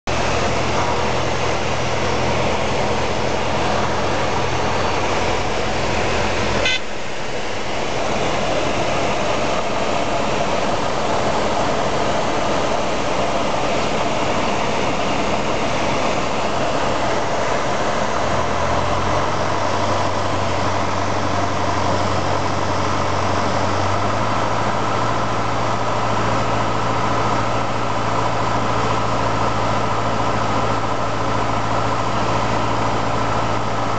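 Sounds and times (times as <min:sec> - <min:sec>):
aircraft engine and propeller: 0:00.1 - 0:33.9
airflow noise: 0:00.1 - 0:33.9.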